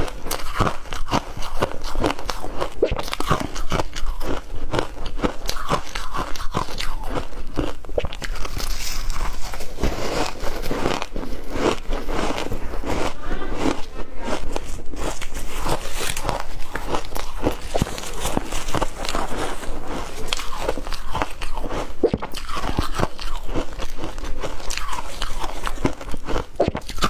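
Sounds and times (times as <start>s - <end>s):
person chewing crunchy ice: 0.0s - 27.0s.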